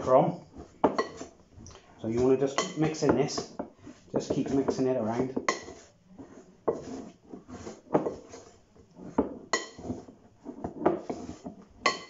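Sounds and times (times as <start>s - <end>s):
wooden spoon scraping glass bowl: 0.0s - 12.0s.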